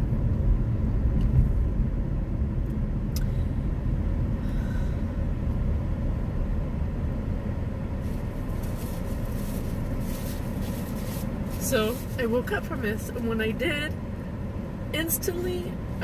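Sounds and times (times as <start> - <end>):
road and engine noise in car: 0.0 - 16.0.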